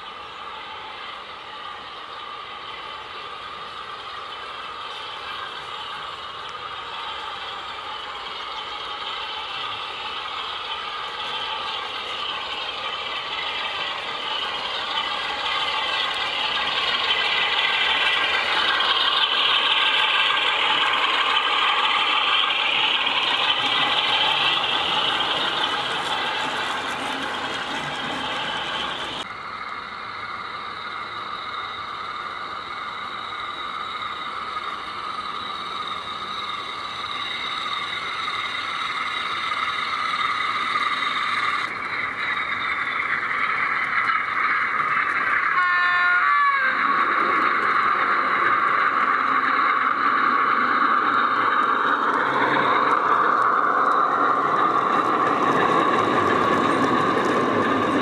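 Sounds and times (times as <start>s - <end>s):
model train whirring past: 0.0s - 58.0s.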